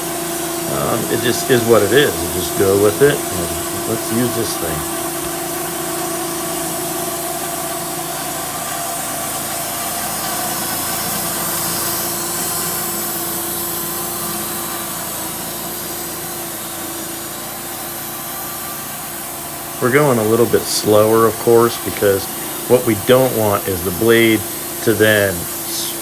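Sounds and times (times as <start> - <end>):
sawmill blade cutting wood: 0.0 - 26.0.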